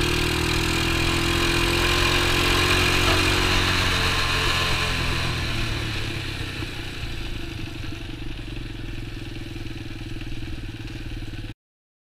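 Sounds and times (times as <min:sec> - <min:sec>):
small engine running: 0:00.0 - 0:11.6.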